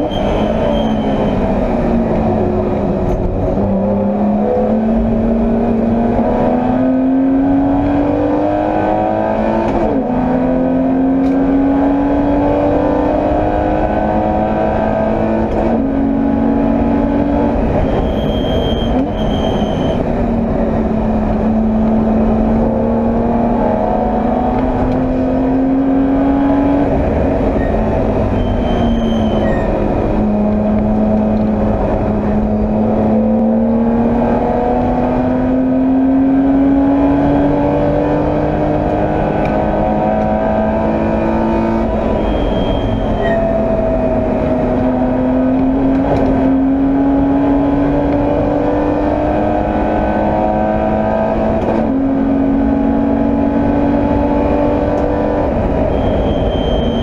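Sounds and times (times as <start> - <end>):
racing car engine revving: 0.0 - 18.1, 19.9 - 57.0.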